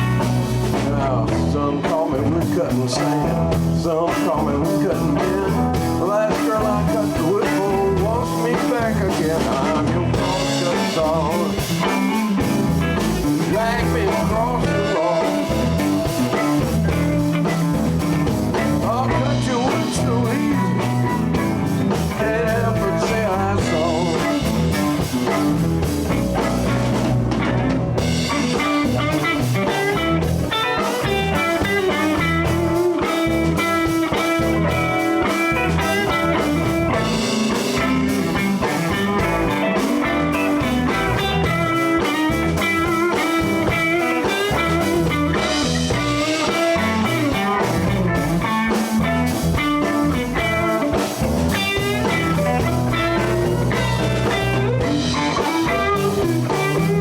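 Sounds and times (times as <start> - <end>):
blues band playing: 0.0 - 57.0
electric guitar lead: 0.0 - 57.0.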